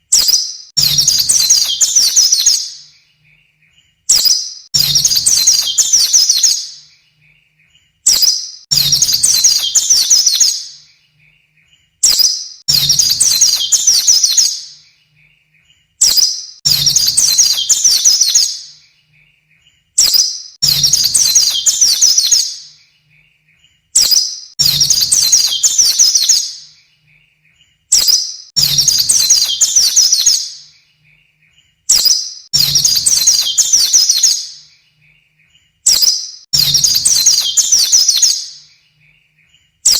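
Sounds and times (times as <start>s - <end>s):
white-eye bird song: 0.0s - 39.9s.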